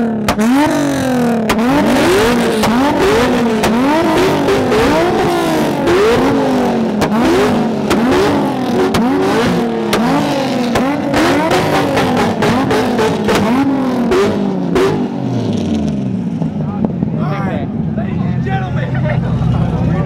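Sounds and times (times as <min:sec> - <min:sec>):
car engine revving: 0:00.0 - 0:20.0
exhaust cracks: 0:00.0 - 0:20.0.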